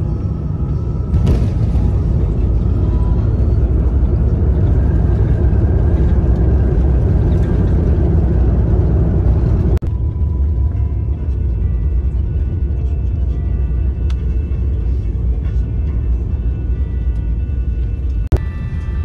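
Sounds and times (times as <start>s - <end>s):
airliner rumble inside cabin: 0.0s - 19.0s.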